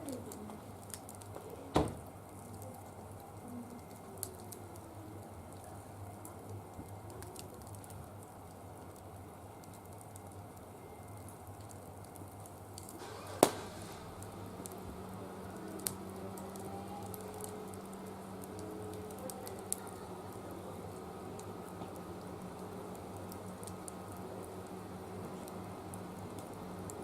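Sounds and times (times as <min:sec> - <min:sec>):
faint steady low hum: 0:00.0 - 0:27.0
wood fire crackling: 0:00.0 - 0:27.0
fire popping: 0:00.1 - 0:27.0.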